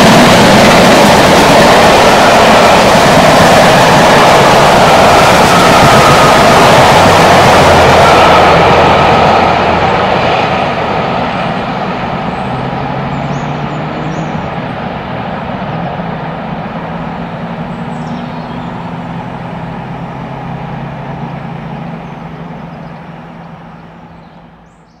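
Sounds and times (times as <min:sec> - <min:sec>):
train coaches rolling past: 0:00.0 - 0:25.0.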